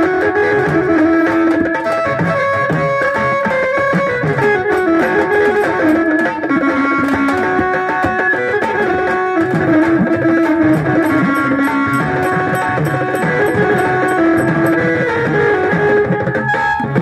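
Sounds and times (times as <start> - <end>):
hand drum rhythm: 0.0 - 17.0
plucked melody: 0.0 - 17.0
steel drum beaten with sticks: 0.0 - 17.0.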